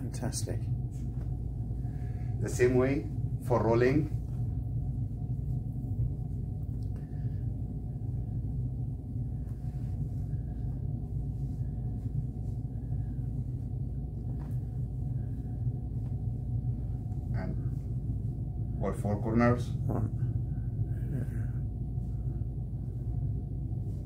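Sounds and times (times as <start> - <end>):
low background hum: 0.0 - 24.0
towel rustling: 0.9 - 8.4, 9.0 - 19.0, 21.6 - 24.0.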